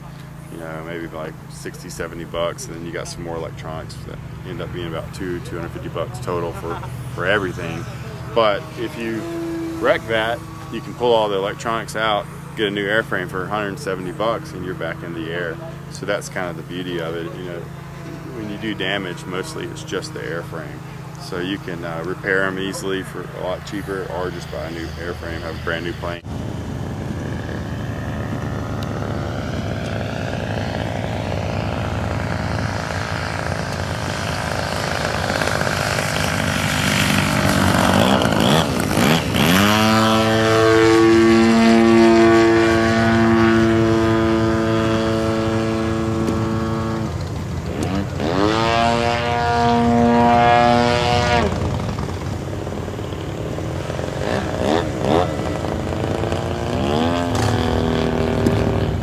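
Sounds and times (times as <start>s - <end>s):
model airplane engine droning: 0.0s - 59.0s.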